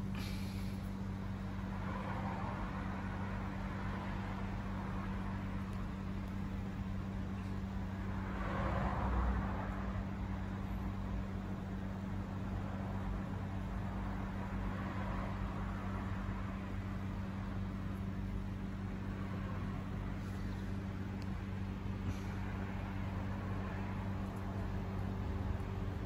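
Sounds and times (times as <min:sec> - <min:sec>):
constant low hum: 0:00.0 - 0:26.0.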